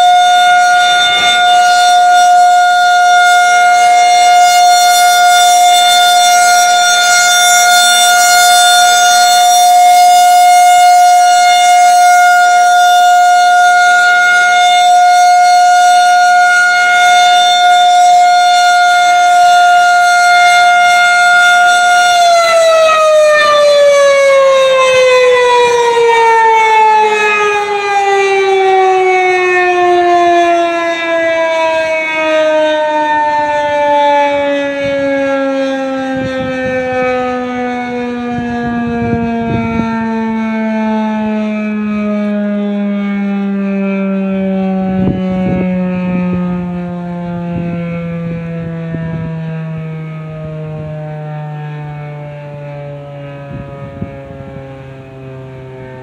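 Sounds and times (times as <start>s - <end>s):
warning siren winding down: 0.0s - 56.0s.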